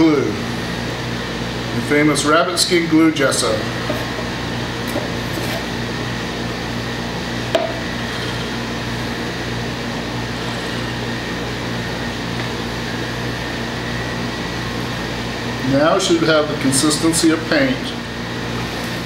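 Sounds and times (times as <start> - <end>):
mechanical room hum: 0.0 - 19.0.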